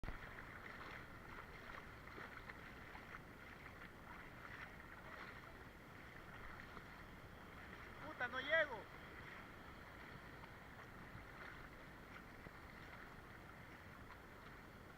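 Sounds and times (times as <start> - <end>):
faint outdoor hiss: 0.1 - 14.9.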